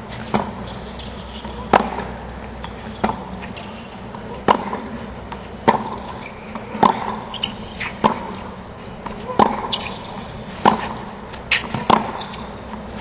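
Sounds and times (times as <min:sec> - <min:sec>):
tennis ball hit by rackets: 0:00.2 - 0:00.7, 0:01.4 - 0:02.2, 0:03.0 - 0:13.0.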